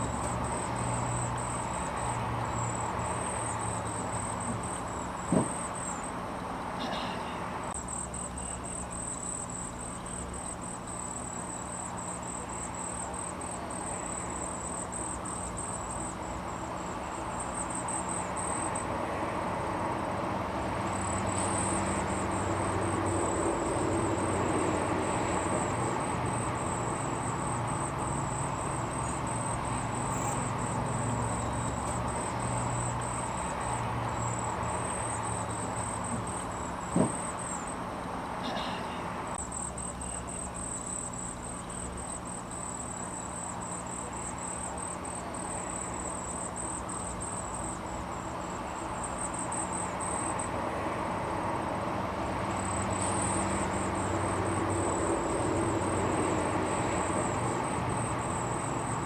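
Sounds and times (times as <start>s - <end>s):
insect trilling: 0.0s - 6.2s, 7.7s - 18.9s, 19.8s - 50.6s, 51.3s - 59.0s.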